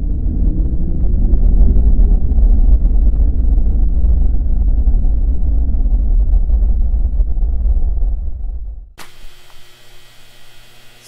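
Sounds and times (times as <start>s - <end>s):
deep rumble: 0.0s - 9.0s.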